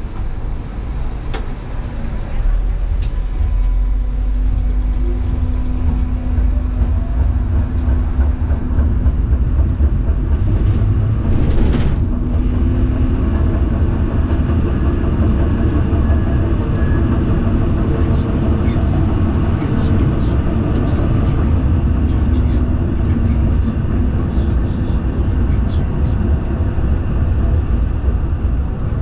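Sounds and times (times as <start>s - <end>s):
steady hum: 0.0s - 29.0s
tram wheels rumbling on rails: 0.0s - 29.0s.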